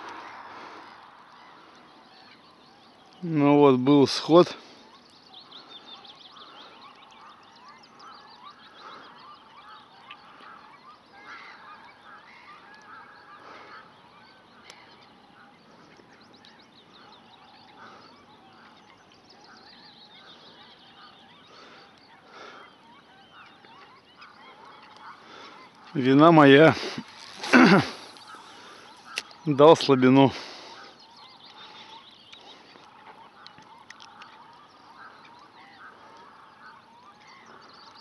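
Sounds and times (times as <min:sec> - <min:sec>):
birds honking and chirping: 0:00.0 - 0:38.0.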